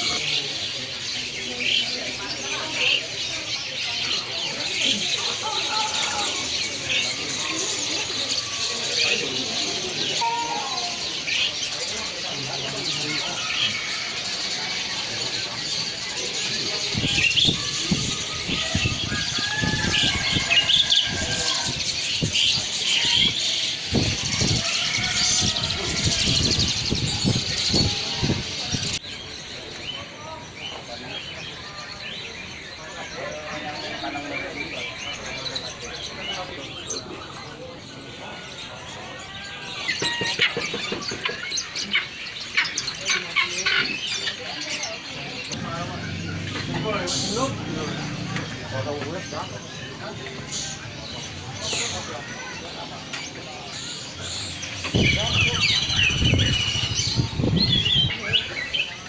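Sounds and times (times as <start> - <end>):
market background: 0.0 - 59.0
songbirds chirping and trilling: 0.0 - 59.0.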